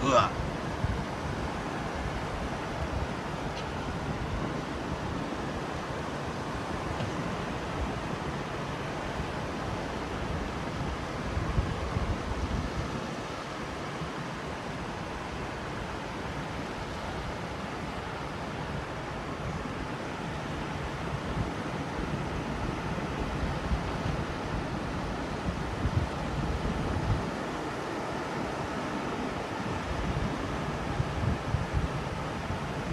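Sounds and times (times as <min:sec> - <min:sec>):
ocean surf washing: 0:00.0 - 0:32.9.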